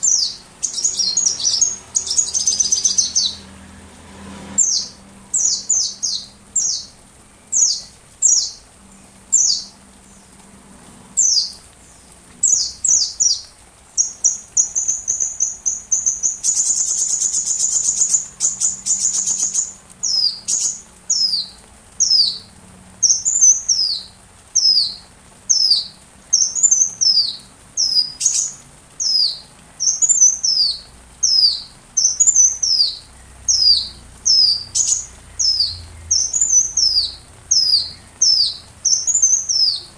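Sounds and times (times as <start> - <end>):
sunbird chirping and trilling: 0.0 - 10.4, 11.1 - 39.9.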